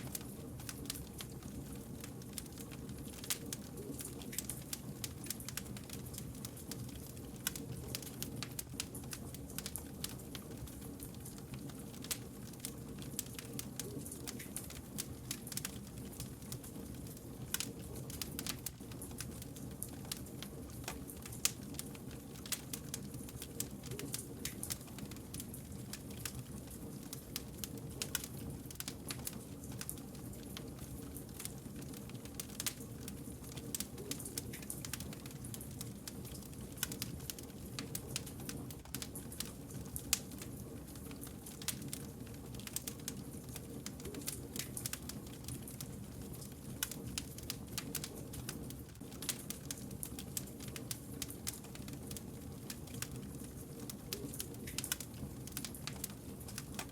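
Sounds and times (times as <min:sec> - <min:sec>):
campfire crackling: 0:00.0 - 0:56.9
low rumble of burning logs: 0:00.0 - 0:56.9
sharp pops and snaps of fire: 0:00.0 - 0:56.9.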